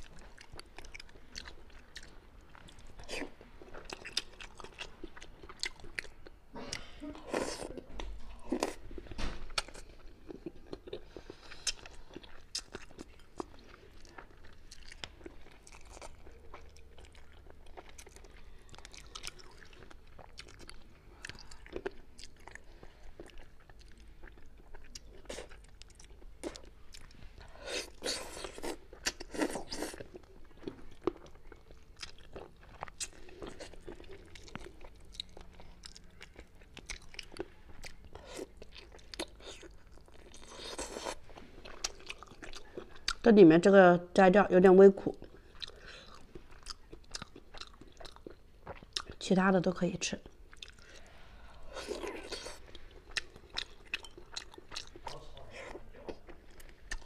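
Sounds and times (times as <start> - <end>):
chewing and biting food: 0.0 - 8.9, 9.5 - 43.2, 45.1 - 49.2, 50.2 - 57.0.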